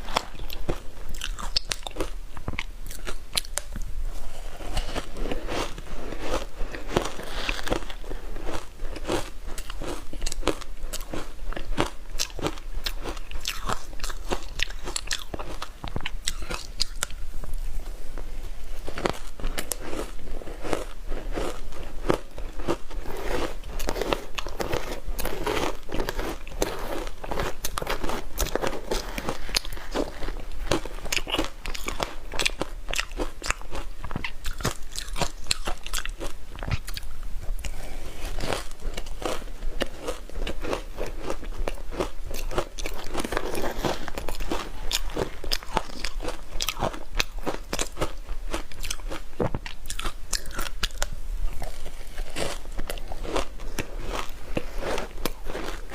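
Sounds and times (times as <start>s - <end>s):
ice being chewed: 0.0s - 55.9s.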